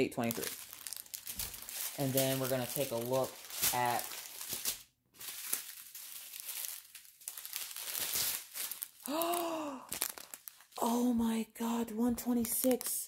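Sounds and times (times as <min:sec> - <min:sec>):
plastic bags crinkling: 0:00.0 - 0:10.9.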